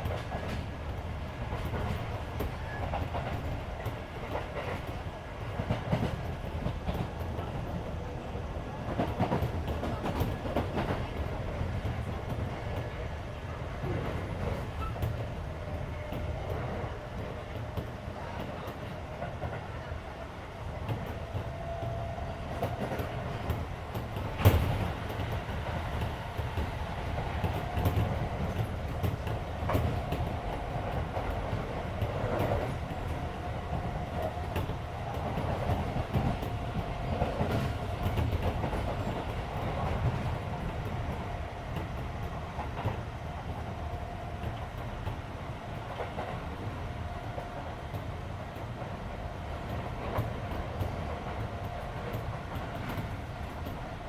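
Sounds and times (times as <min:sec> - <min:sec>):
wheel and rail rumble: 0:00.0 - 0:54.0.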